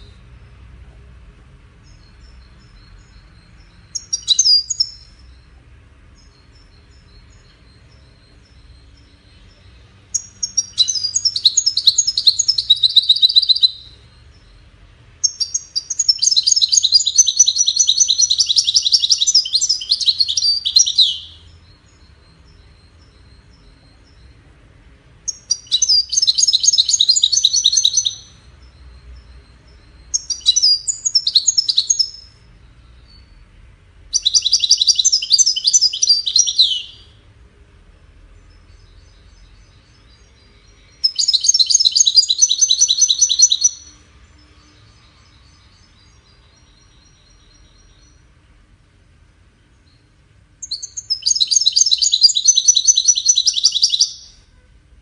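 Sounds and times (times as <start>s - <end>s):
faint soft bird notes: 0.0s - 55.0s
goldfinch twittering song: 1.8s - 24.6s, 25.2s - 33.5s, 34.1s - 37.2s, 38.4s - 48.3s, 49.6s - 54.4s.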